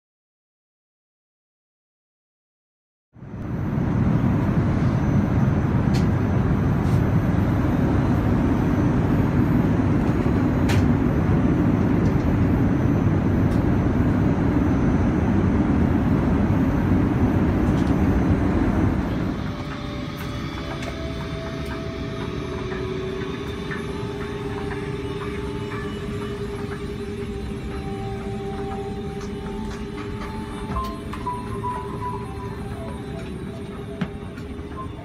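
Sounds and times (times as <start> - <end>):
airplane cabin engine rumble: 3.2 - 35.0
steady hum: 3.2 - 35.0.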